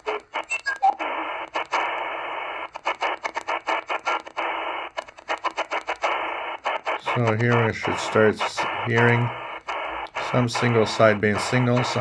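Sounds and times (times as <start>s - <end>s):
radio hiss in short bursts: 0.0s - 12.0s
tuning clicks: 0.0s - 12.0s.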